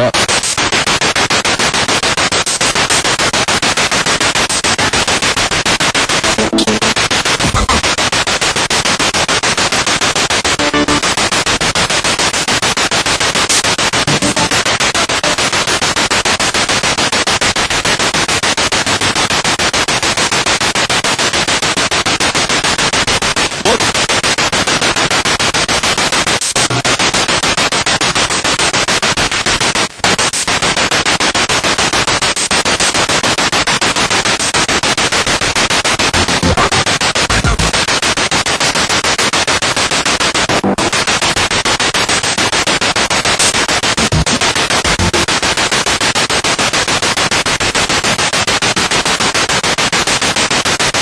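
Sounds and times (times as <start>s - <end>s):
radio static pulsing: 0.0s - 50.8s.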